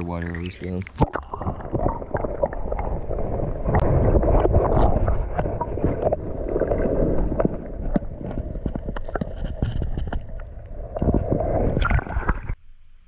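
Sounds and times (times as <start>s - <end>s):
underwater river rushing: 0.0s - 12.6s.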